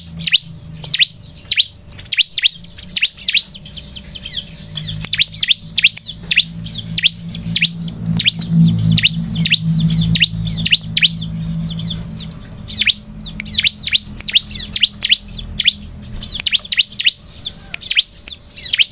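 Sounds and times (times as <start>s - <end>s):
bird chirping: 0.0s - 18.9s
low steady hum: 0.0s - 18.9s.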